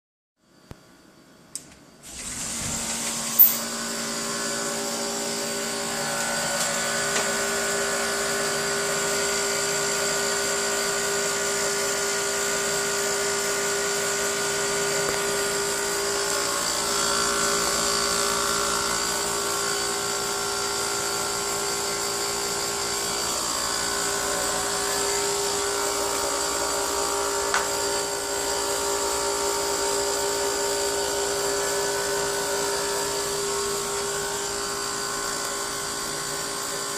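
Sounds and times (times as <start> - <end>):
air conditioner whining hum: 0.4 - 36.9.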